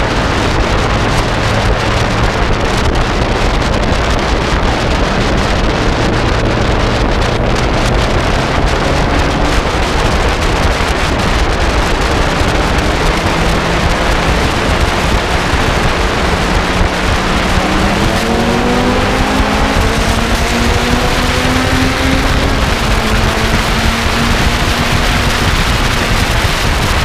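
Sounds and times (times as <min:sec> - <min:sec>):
sports car engine at speed: 0:00.0 - 0:27.0
wind rushing over microphone: 0:00.0 - 0:27.0.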